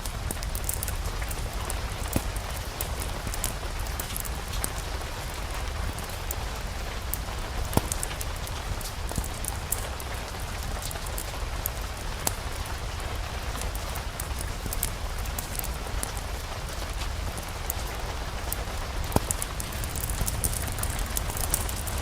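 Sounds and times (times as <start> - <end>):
sharp ticks and pops: 0.0 - 22.0
steady rain: 0.0 - 22.0.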